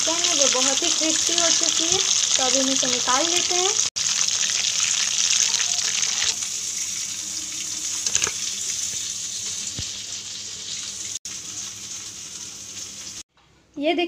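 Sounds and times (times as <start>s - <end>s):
chicken deep-frying in oil: 0.0s - 13.3s.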